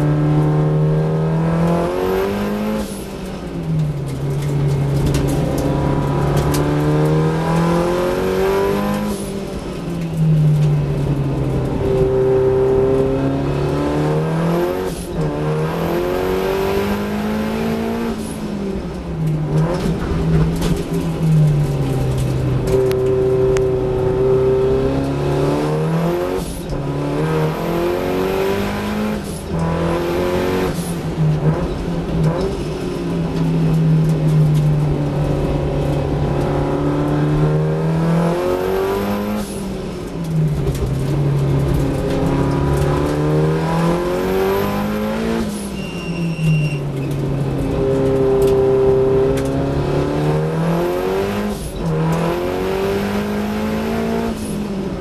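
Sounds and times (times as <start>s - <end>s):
race car engine accelerating: 4.0s - 55.0s.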